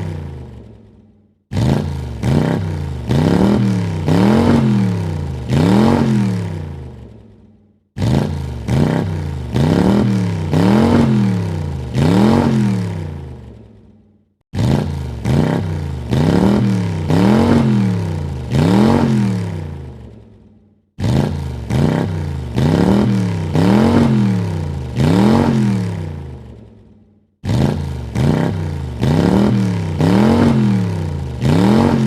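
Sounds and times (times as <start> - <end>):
car engine revving: 0.0 - 7.4, 8.0 - 13.6, 14.5 - 20.2, 21.0 - 26.6, 27.4 - 32.0.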